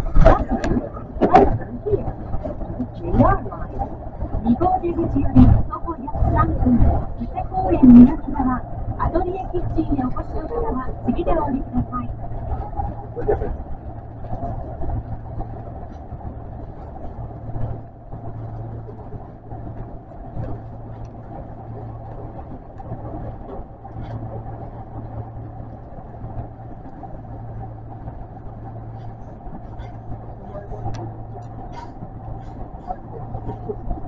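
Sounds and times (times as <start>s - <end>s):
subway train rumble and hum: 0.0s - 34.0s.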